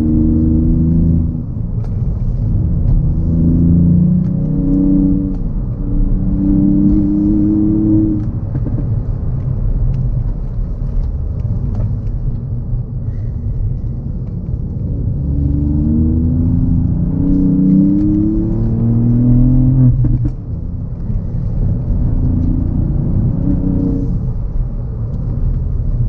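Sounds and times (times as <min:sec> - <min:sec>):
car engine revving: 0:00.0 - 0:10.1, 0:13.6 - 0:26.0
road rumble: 0:00.0 - 0:26.0.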